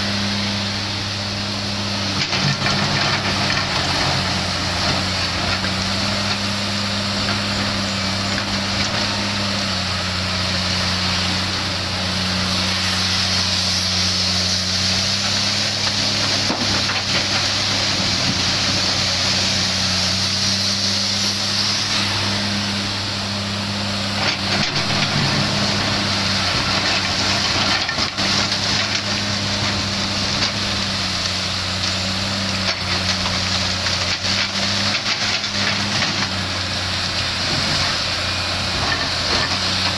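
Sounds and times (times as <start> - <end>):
excavator diesel engine under load: 0.0 - 39.9
hydraulic hiss: 0.1 - 39.9.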